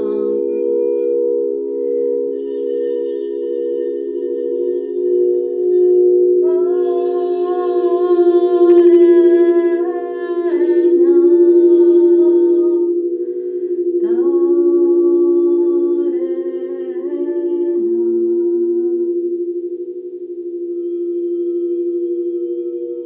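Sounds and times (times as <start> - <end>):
person humming long notes: 0.0 - 23.0
singing bowls ringing: 0.0 - 23.0.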